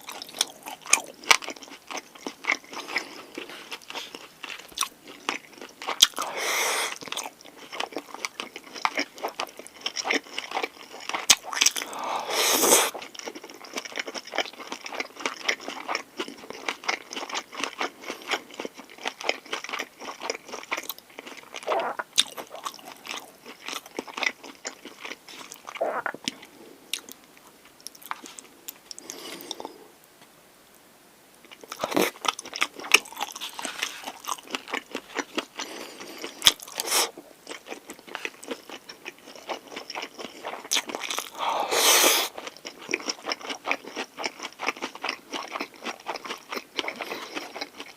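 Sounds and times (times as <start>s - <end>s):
chewing: 0.0s - 29.8s, 31.4s - 47.9s.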